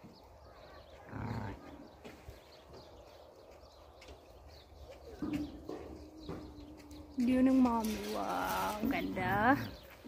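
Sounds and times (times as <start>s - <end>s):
faint farmyard sounds: 0.0s - 10.0s.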